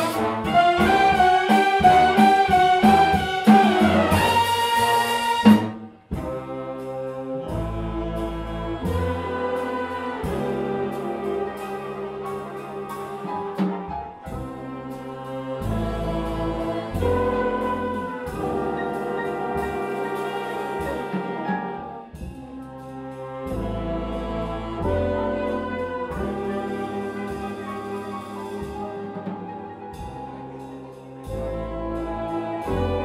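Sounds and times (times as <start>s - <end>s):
bass and drums: 0.0s - 33.0s
big band brass and saxophones: 0.0s - 33.0s.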